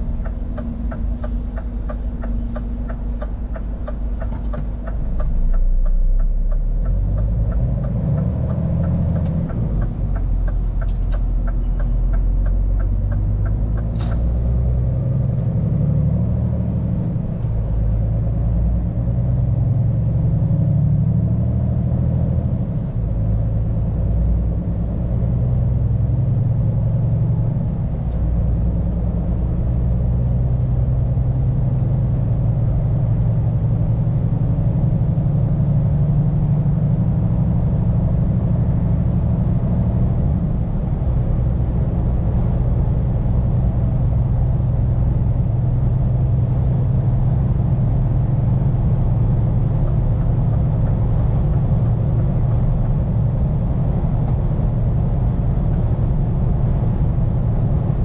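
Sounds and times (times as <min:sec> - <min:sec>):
diesel truck engine drone: 0:00.0 - 0:58.0
road noise: 0:00.0 - 0:58.0.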